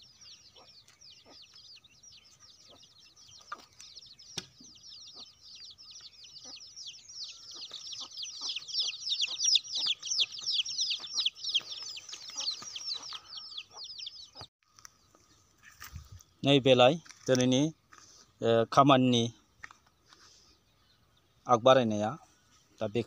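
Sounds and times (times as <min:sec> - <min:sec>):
small birds chirping rapidly: 0:00.0 - 0:23.0.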